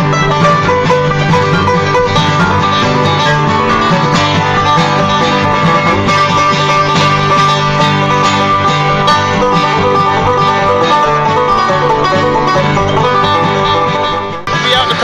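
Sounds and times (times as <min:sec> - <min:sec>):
bluegrass acoustic string music: 0:00.0 - 0:15.0.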